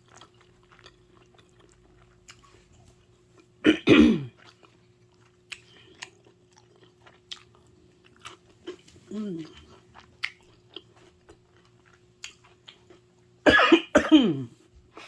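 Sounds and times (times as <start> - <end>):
person chewing: 0.0 - 3.6, 4.3 - 13.0.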